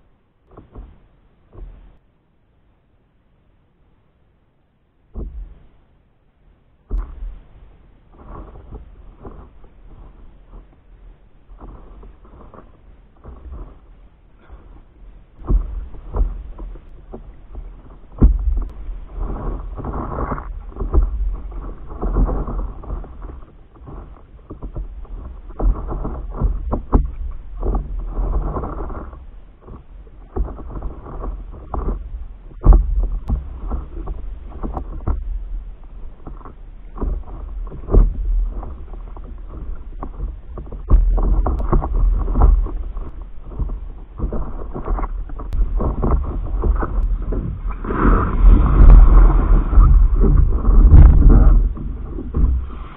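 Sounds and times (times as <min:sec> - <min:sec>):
wind rumble on microphone: 0:05.0 - 0:52.9
water splashing against paddleboard: 0:06.9 - 0:52.9.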